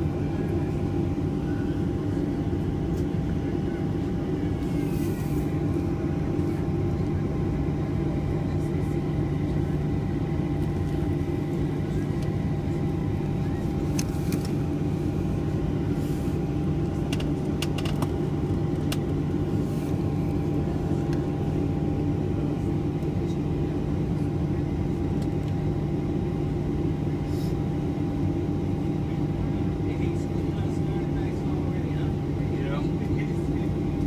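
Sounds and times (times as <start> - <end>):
jet engines idling hum: 0.0 - 34.0.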